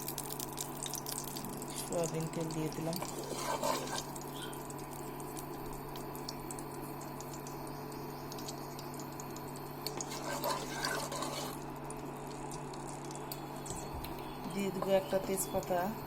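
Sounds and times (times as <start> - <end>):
oil crackling: 0.0 - 14.3
steady low hum: 0.0 - 16.0.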